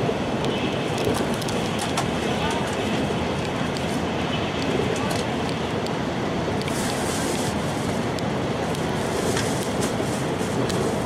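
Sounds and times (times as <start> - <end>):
train rumble inside car: 0.0 - 11.0.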